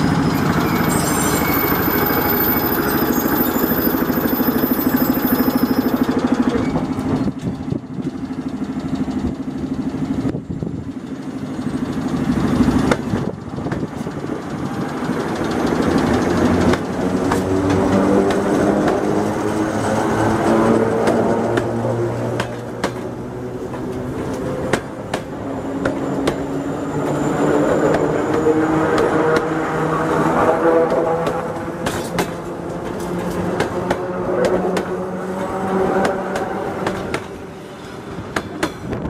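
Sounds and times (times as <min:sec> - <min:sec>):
train humming tones: 0:00.0 - 0:39.0
train wheels clattering over rails: 0:00.0 - 0:39.0.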